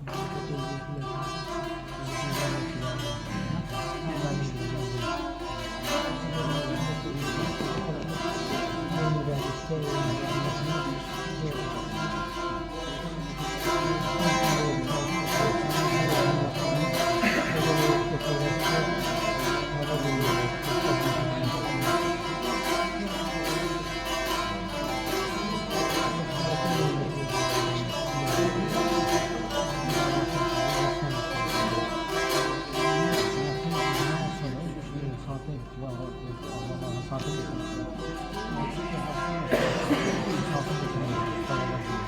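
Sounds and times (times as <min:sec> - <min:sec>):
plucked lute solo: 0:00.0 - 0:42.0.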